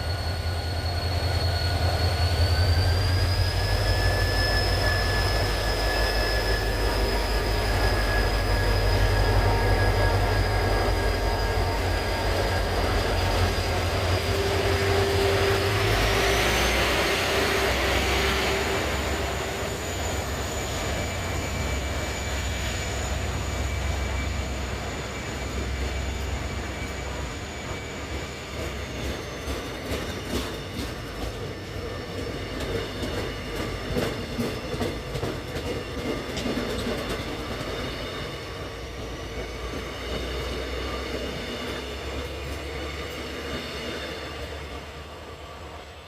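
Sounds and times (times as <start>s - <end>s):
diesel locomotive drone: 0.0s - 46.0s.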